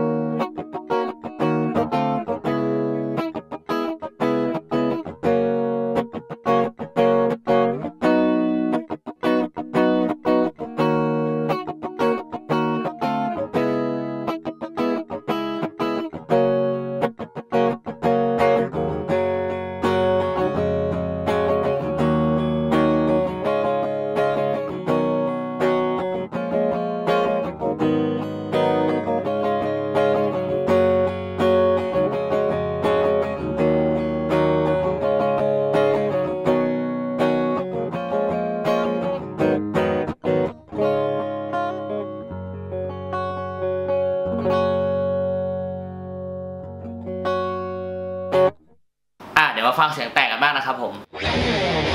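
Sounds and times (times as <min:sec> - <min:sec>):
clean electric guitar: 0:00.0 - 0:49.4, 0:50.9 - 0:51.9.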